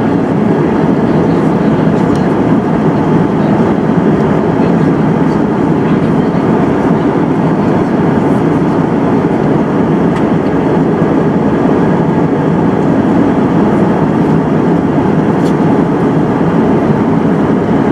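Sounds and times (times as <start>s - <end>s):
airliner cabin noise in flight: 0.0s - 17.9s.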